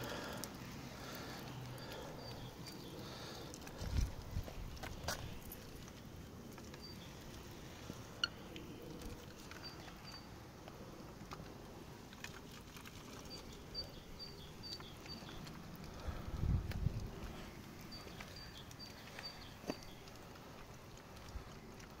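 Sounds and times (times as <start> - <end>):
outdoor ambience: 0.0 - 22.0.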